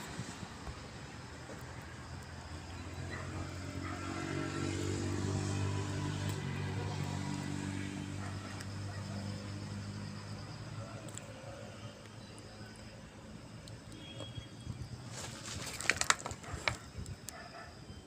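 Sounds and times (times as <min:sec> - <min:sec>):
lorry engine humming: 0:00.0 - 0:18.0.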